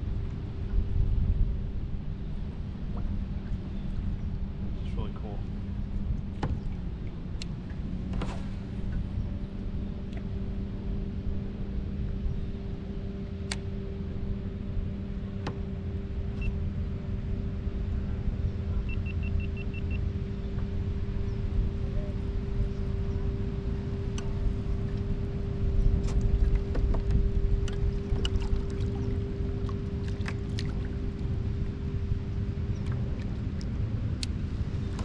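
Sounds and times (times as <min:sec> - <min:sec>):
steady low hum: 0:00.0 - 0:35.0
wind rumbling on microphone: 0:00.0 - 0:35.0.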